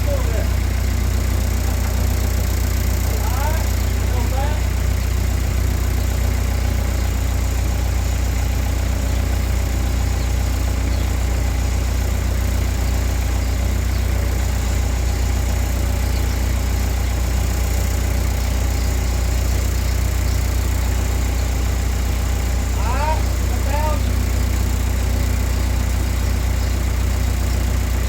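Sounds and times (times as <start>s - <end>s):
machine humming with fast ticking: 0.0s - 28.0s.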